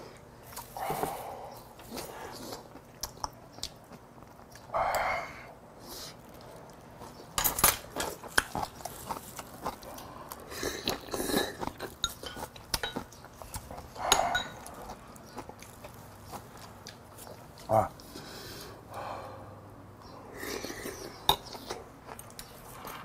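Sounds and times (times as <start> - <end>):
chewing: 0.4 - 5.1, 5.8 - 18.8, 20.4 - 23.0.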